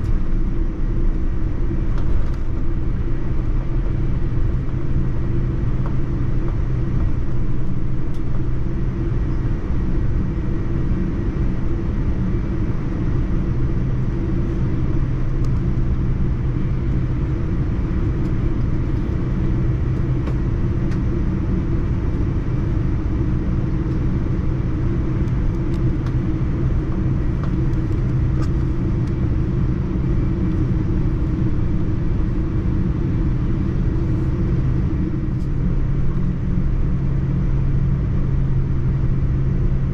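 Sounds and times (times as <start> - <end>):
airliner engines rumbling in cabin: 0.0 - 39.9
constant low hum: 0.0 - 39.9.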